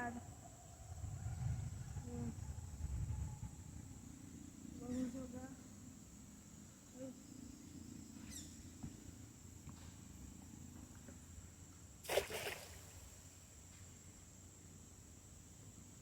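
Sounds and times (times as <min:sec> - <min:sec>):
crickets droning: 0:00.0 - 0:16.0.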